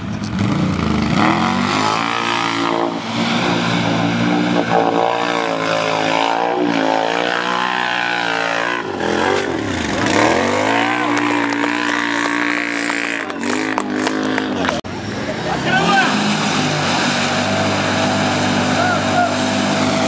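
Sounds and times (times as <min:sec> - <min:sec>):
atv engines revving: 0:00.0 - 0:20.0.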